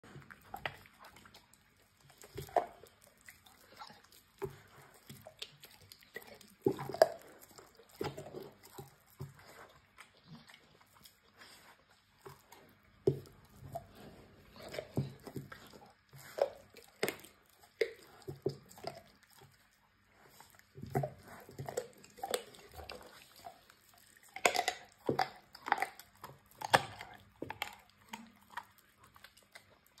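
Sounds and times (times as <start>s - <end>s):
dog chewing and crunching bone: 0.0s - 30.0s.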